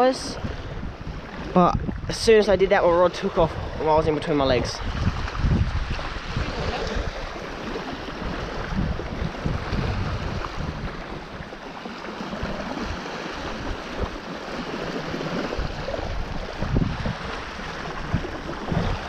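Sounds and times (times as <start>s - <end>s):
small waves washing on beach: 0.0s - 19.0s
wind buffeting microphone: 0.0s - 19.0s.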